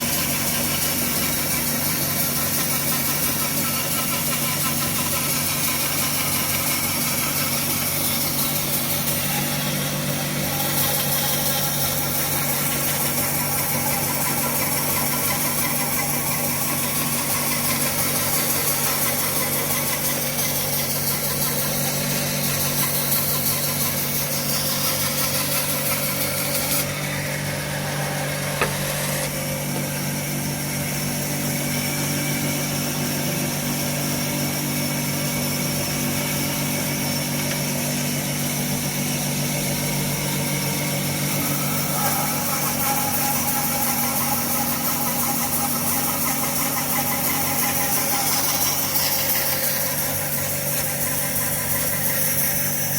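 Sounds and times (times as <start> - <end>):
power saw cutting wood: 0.0 - 52.9.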